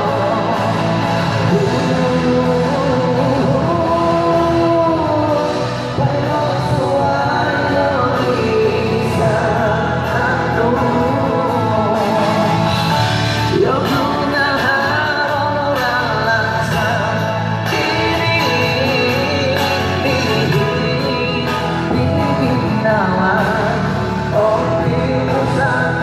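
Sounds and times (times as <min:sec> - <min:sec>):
person singing with band: 0:00.0 - 0:26.0.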